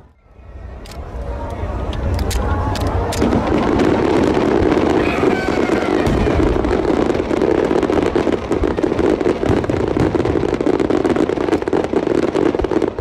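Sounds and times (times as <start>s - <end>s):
fireworks crackling and popping: 1.0s - 13.0s.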